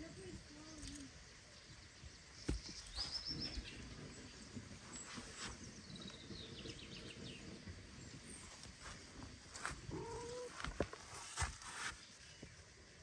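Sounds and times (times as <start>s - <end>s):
small birds calling: 0.0s - 12.7s.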